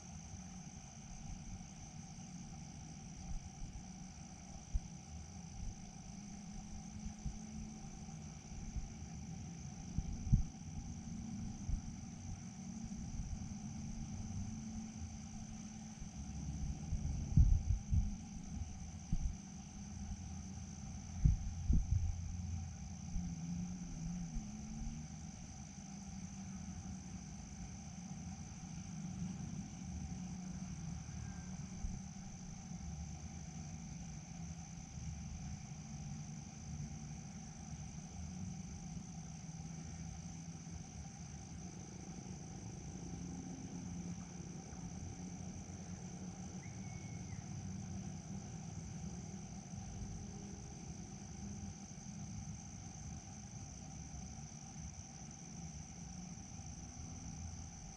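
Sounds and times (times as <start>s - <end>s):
crickets chirring: 0.0s - 57.9s
low background rumble: 0.0s - 57.9s.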